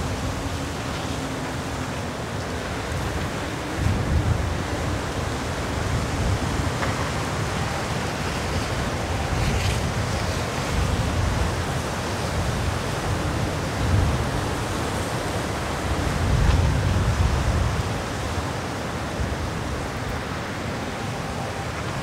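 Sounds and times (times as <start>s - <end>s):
wind buffeting the microphone: 0.0s - 20.6s
wind rushing through branches: 0.0s - 22.0s.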